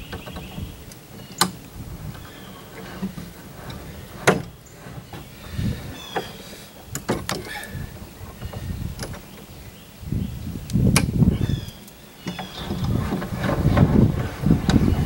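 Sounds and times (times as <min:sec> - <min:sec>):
short squeaks: 0:00.0 - 0:09.3, 0:11.4 - 0:15.0.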